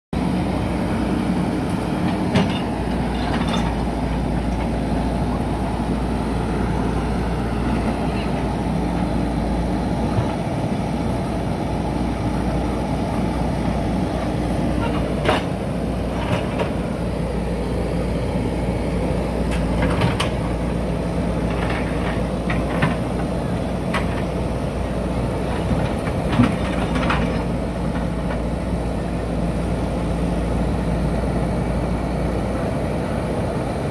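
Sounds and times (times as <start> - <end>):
diesel engine running under load: 0.2 - 33.9.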